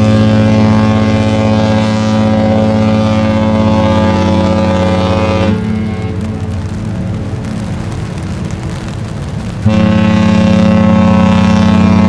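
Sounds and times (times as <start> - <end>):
ship horn blast: 0.0 - 8.9, 9.5 - 12.0
rain hiss: 0.0 - 12.0.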